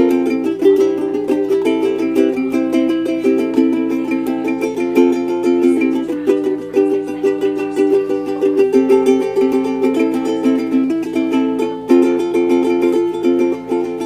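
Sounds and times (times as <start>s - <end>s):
ukulele strumming chords: 0.0s - 14.0s.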